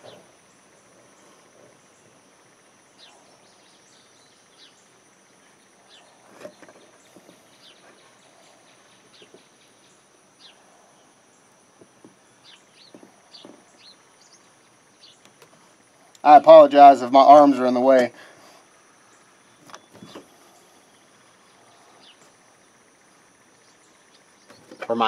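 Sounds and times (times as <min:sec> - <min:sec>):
bird chirps: 0:00.0 - 0:11.5, 0:12.2 - 0:15.3, 0:19.0 - 0:25.0.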